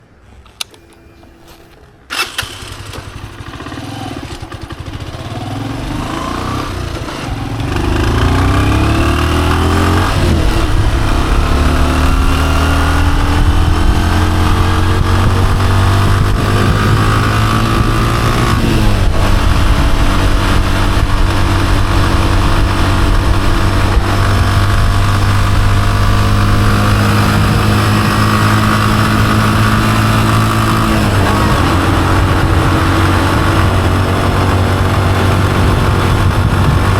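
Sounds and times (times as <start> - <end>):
motorcycle engine accelerating: 2.1 - 36.9.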